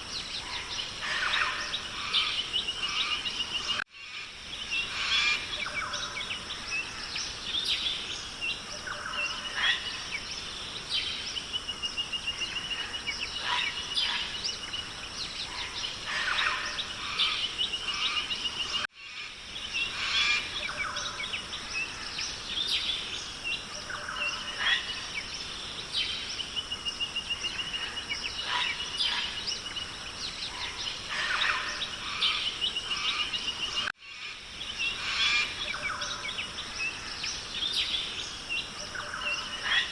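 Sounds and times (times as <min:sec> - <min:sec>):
birds chirping and calling: 0:00.0 - 0:39.9
steady hiss: 0:00.0 - 0:39.9.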